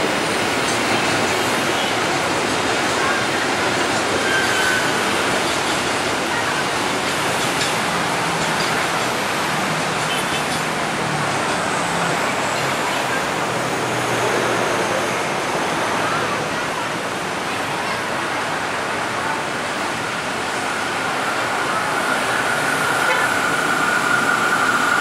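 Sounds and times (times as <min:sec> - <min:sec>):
train approaching rushing noise: 0:00.0 - 0:25.0.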